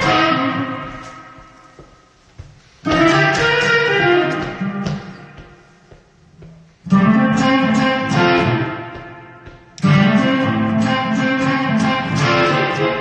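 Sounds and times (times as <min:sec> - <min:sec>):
electric guitar chords: 0:00.0 - 0:02.0, 0:02.8 - 0:06.0, 0:06.8 - 0:13.0.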